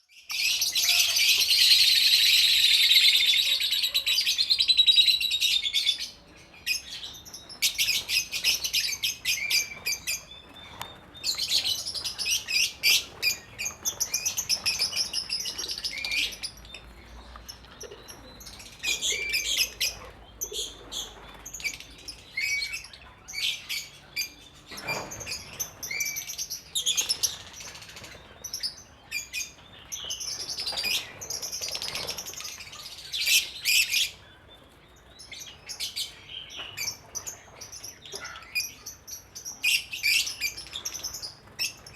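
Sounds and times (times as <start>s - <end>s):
lovebirds chirping: 0.0s - 41.9s.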